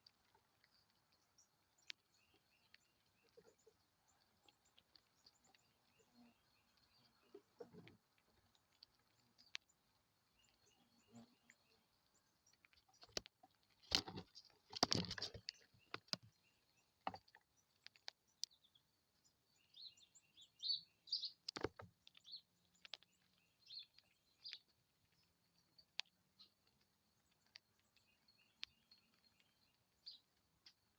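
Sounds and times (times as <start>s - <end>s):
faint bird chirps: 0.0s - 13.2s, 13.8s - 30.9s.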